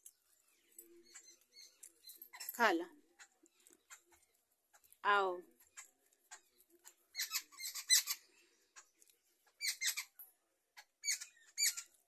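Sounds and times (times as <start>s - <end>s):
birds chattering: 0.0s - 12.0s
high squeaky bird calls: 0.8s - 4.9s, 5.6s - 10.2s, 10.8s - 12.0s.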